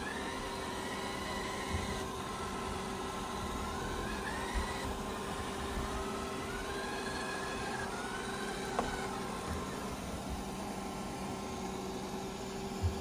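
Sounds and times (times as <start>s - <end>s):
robot vacuum running: 0.0s - 13.0s.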